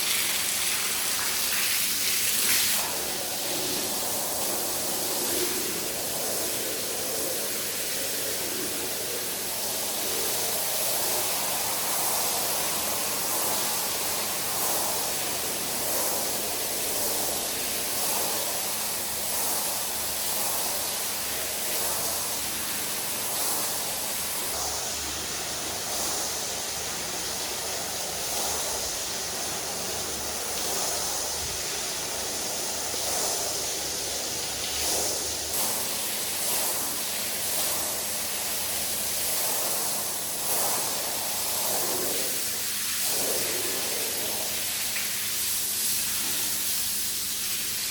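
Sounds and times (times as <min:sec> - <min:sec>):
water spraying onto rug: 0:00.0 - 0:47.9.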